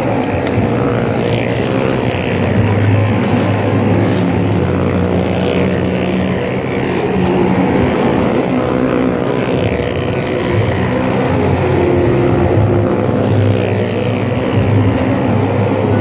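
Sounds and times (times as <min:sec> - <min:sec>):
motorcycle engines running hard: 0:00.0 - 0:16.0.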